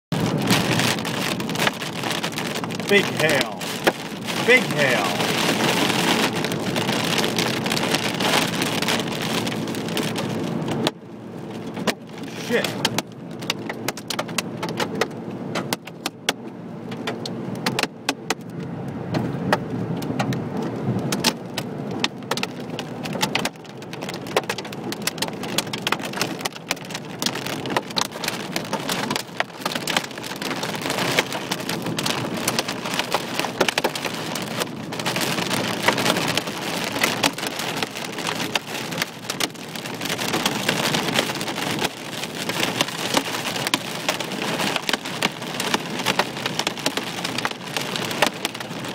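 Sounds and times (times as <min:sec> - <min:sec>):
car road noise: 0:00.1 - 0:48.9
hail rattling on car roof: 0:00.2 - 0:16.4, 0:21.2 - 0:48.9.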